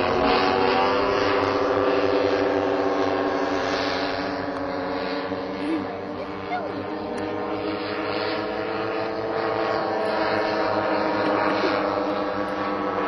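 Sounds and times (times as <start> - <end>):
model airplane engine droning: 0.0 - 13.0.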